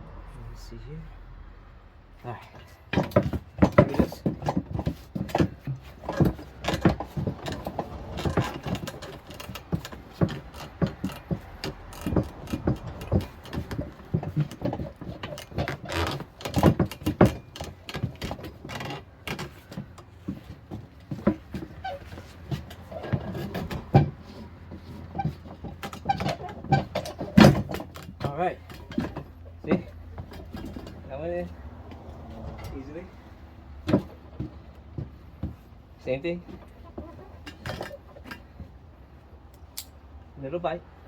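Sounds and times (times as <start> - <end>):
tools clanking on tire rim: 2.6 - 39.0.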